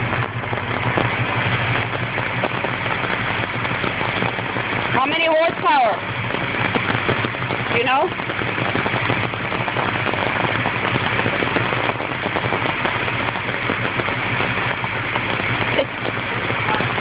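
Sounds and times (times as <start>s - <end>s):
engine idling with fast ticking: 0.0s - 17.0s.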